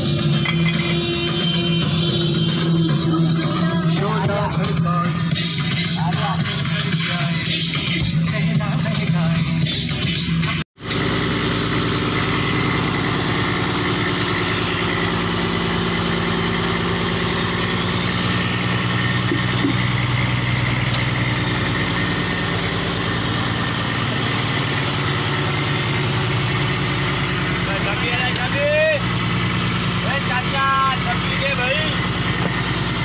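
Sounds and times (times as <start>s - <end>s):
boat engine humming: 0.0s - 10.0s, 10.8s - 33.0s.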